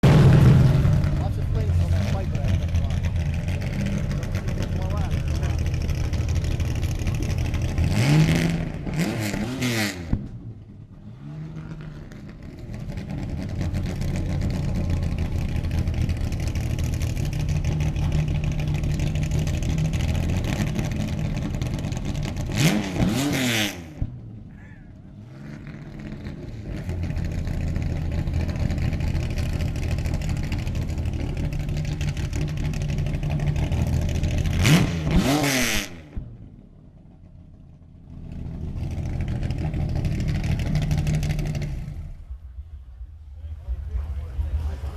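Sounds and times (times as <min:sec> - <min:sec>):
race car engine idling and revving: 0:00.0 - 0:44.9.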